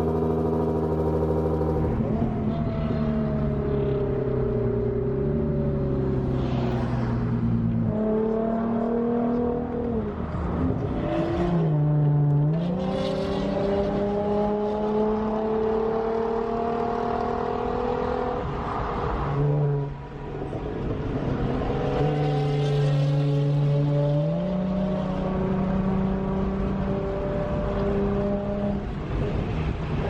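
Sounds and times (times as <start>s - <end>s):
car engine accelerating through gears: 0.0s - 19.9s, 20.8s - 28.8s.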